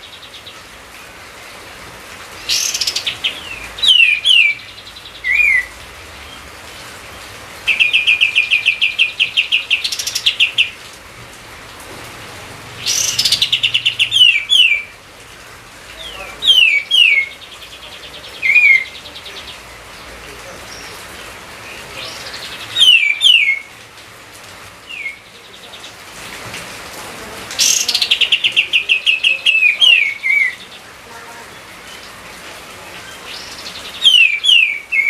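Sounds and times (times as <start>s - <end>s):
songbird singing: 0.0s - 11.0s, 12.4s - 26.4s, 27.0s - 35.0s.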